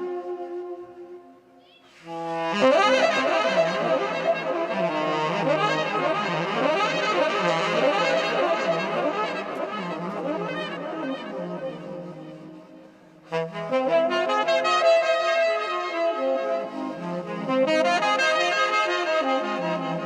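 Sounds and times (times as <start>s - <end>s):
saxophone playing: 0.0s - 1.3s, 1.9s - 20.0s.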